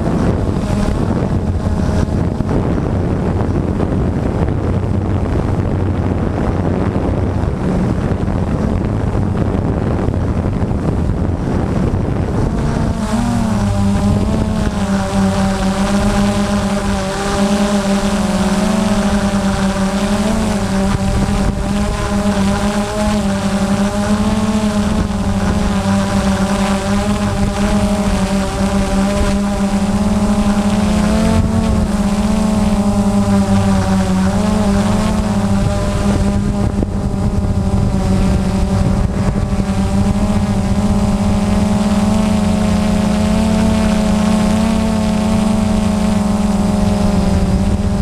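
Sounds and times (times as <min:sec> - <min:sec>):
drone propellers buzzing: 0:00.0 - 0:48.0.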